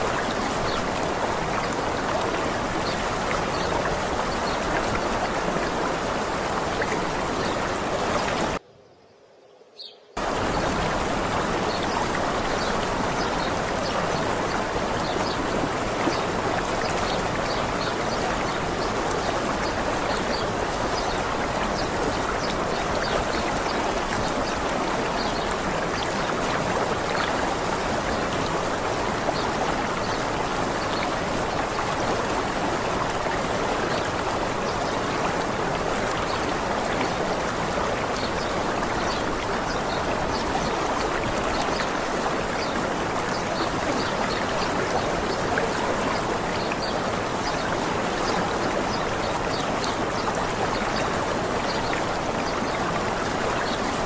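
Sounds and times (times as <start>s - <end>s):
waterfall rushing: 0.0s - 8.6s, 10.2s - 54.0s.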